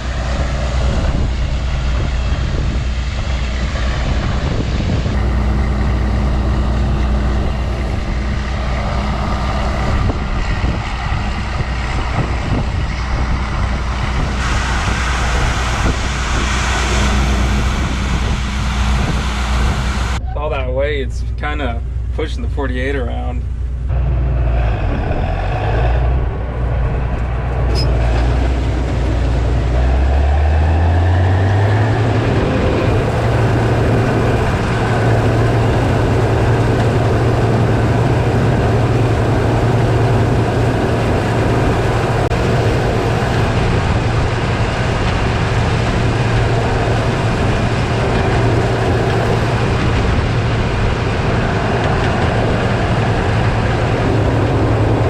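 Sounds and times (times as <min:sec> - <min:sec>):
combine engine drone: 0:00.0 - 0:55.0.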